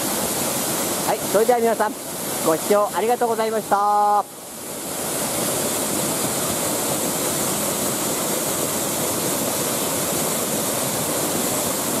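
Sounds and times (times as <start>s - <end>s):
waterfall crashing into pool: 0.0s - 12.0s.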